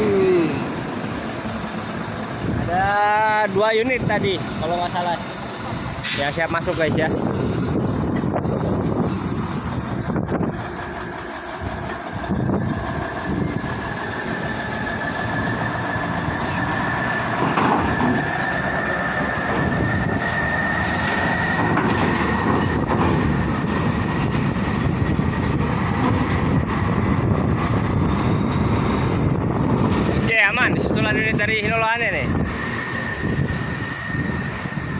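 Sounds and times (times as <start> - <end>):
truck diesel engine rumble: 0.0 - 34.9.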